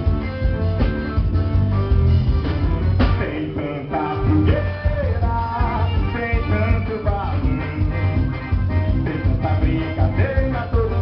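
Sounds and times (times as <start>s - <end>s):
band music with singing: 0.0s - 11.0s.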